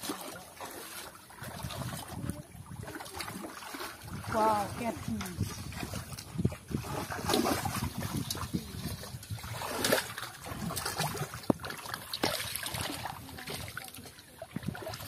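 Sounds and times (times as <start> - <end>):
splashing in muddy water: 0.0 - 15.0.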